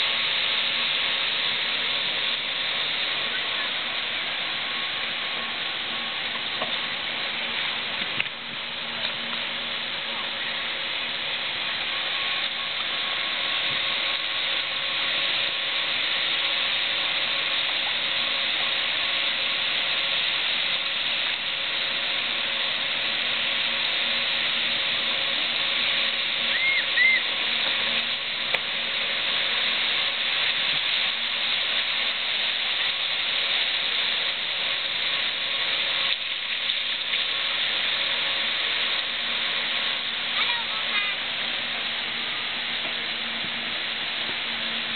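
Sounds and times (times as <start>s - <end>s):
faint steady hum: 0.0s - 44.9s
water rushing along channel: 0.0s - 44.9s.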